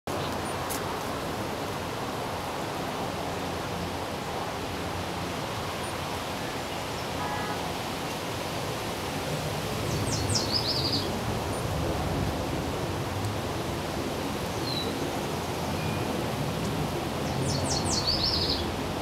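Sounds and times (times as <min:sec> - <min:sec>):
steady wind: 0:00.1 - 0:19.0.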